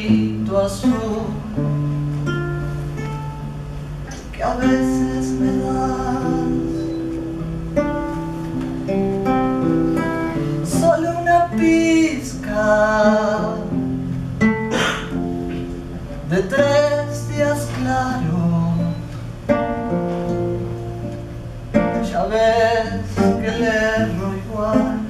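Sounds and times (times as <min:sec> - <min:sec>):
acoustic guitar melody: 0:00.0 - 0:25.0.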